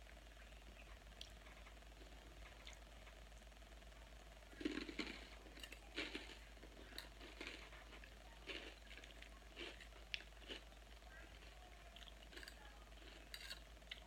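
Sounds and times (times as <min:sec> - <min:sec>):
faint steady hum: 0:00.0 - 0:14.0
chewing crunchy salad: 0:01.1 - 0:02.9, 0:04.5 - 0:14.0.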